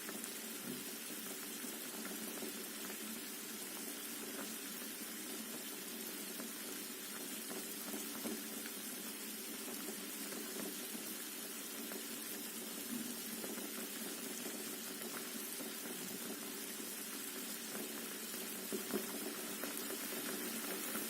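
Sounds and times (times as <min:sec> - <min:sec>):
water boiling in a pot: 0:00.0 - 0:21.0.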